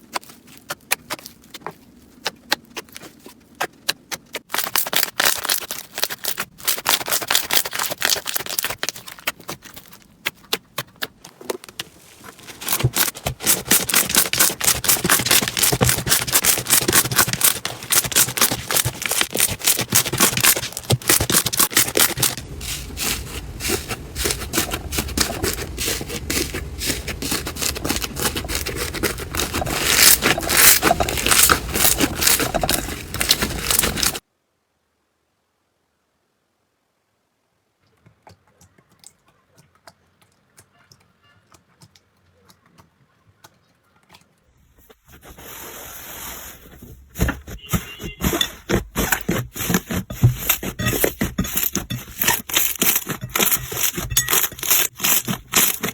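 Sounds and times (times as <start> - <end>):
slime crackling and squelching: 0.0 - 34.2, 44.8 - 55.9.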